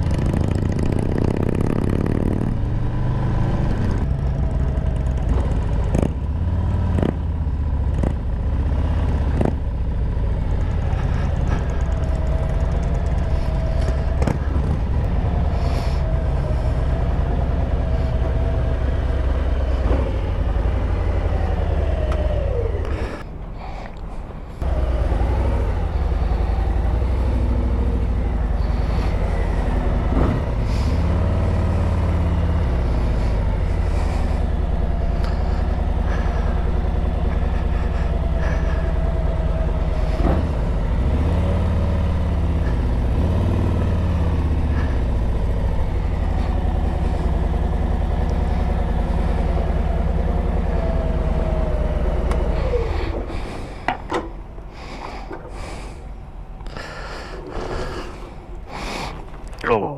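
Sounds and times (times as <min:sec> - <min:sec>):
vehicle engine revving: 0:00.0 - 0:23.2, 0:24.6 - 0:59.6.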